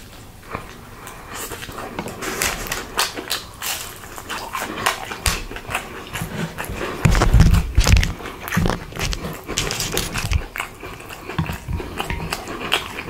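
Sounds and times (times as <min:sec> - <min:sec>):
food being chewed: 0:00.0 - 0:13.0.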